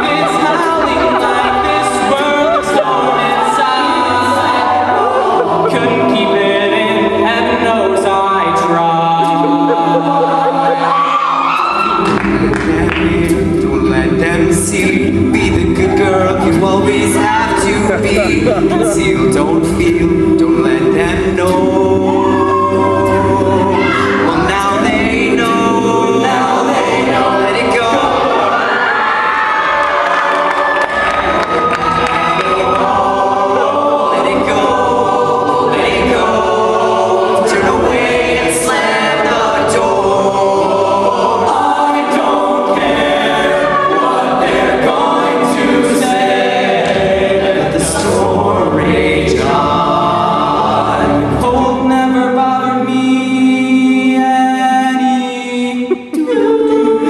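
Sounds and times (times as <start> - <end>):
a cappella group singing: 0.0 - 57.0.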